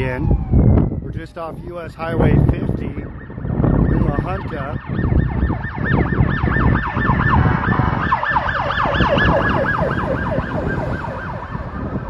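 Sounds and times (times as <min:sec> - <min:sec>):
siren yelping: 0:00.0 - 0:01.7, 0:02.8 - 0:12.0.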